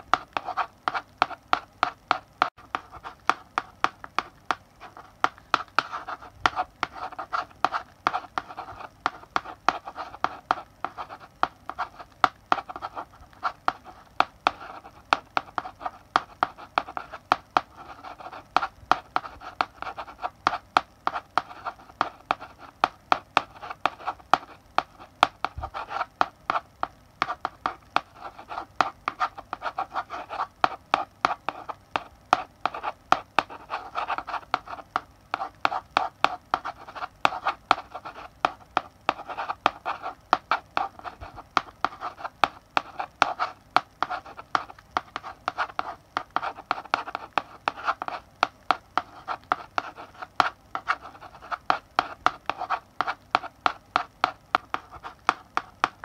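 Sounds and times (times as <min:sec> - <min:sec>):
chalk scratching on blackboard: 0:00.0 - 0:56.0
chalk tapping on board: 0:00.0 - 0:56.0.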